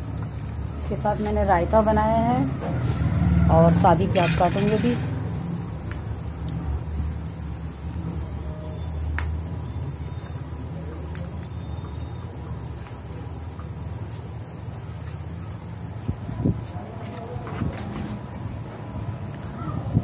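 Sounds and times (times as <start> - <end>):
meat sizzling on charcoal grill: 0.0 - 20.0.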